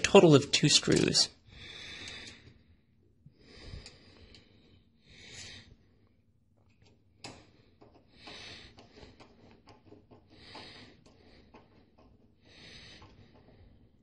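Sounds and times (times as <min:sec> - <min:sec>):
faint breathing: 0:01.4 - 0:06.2, 0:07.2 - 0:14.0.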